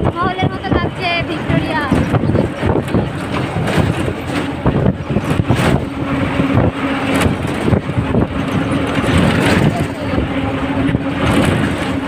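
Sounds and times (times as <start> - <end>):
road and traffic noise: 0.0 - 12.0
wind buffeting microphone: 0.0 - 12.0.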